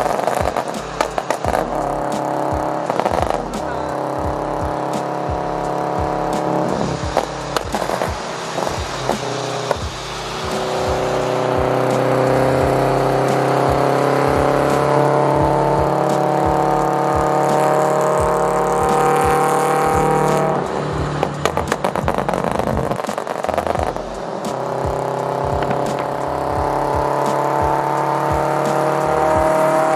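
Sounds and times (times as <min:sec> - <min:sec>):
car engine revving hard: 0:00.0 - 0:29.9
exhaust crackles and pops: 0:00.0 - 0:29.9.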